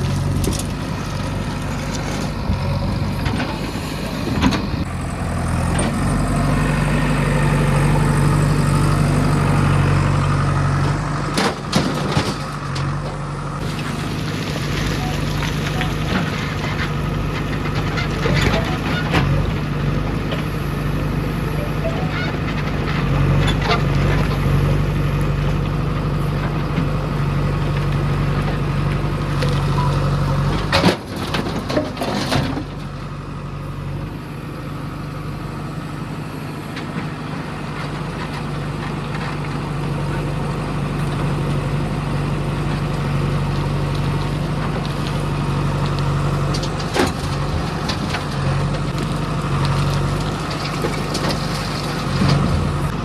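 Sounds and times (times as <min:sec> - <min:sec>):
heavy diesel engine running: 0:00.0 - 0:53.0.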